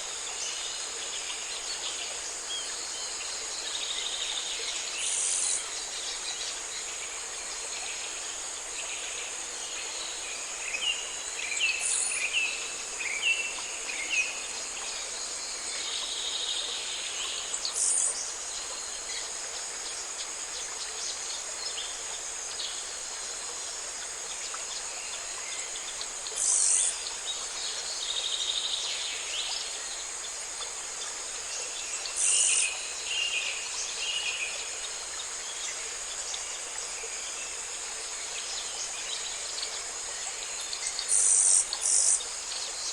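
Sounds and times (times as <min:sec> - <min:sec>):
high insect chorus: 0:00.0 - 0:42.9.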